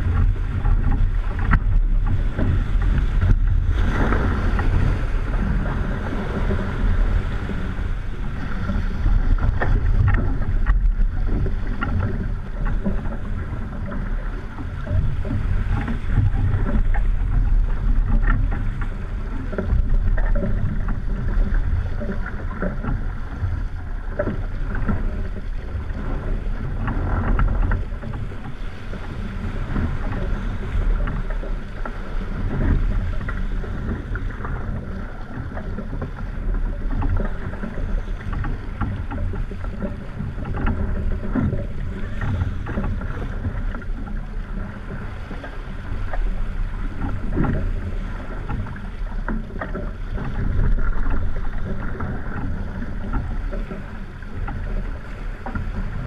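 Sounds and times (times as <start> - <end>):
water rushing along hull: 0.0 - 56.0
wind gusting over microphone: 0.0 - 56.0.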